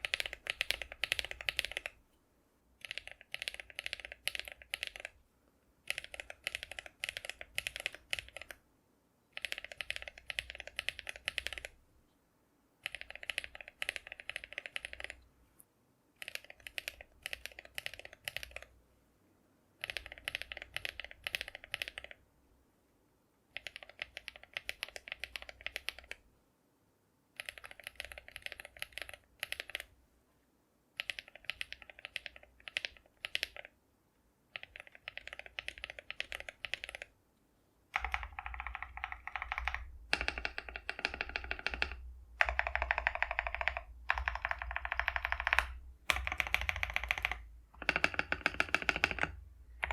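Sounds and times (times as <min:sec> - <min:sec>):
mechanical keyboard typing: 0:00.0 - 0:02.0, 0:02.8 - 0:05.2, 0:05.8 - 0:08.6, 0:09.3 - 0:11.8, 0:12.8 - 0:15.2, 0:16.1 - 0:18.8, 0:19.8 - 0:22.2, 0:23.5 - 0:26.2, 0:27.3 - 0:30.0, 0:31.0 - 0:33.8, 0:34.5 - 0:37.2, 0:37.9 - 0:49.9.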